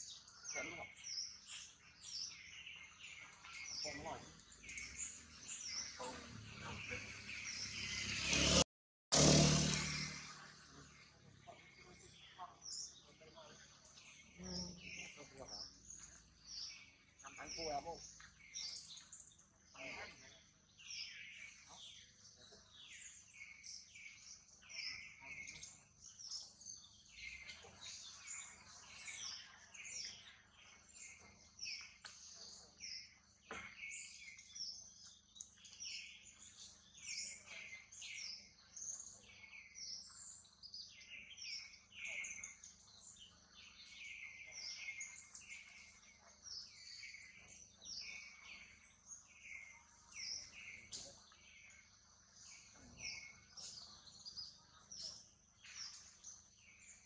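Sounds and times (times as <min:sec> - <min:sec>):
faint birds chirping: 0:00.0 - 0:57.0.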